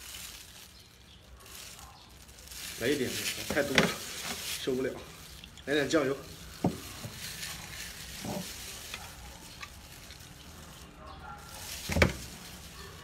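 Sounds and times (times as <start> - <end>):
wet chewing and mouth sounds: 0.0 - 13.0.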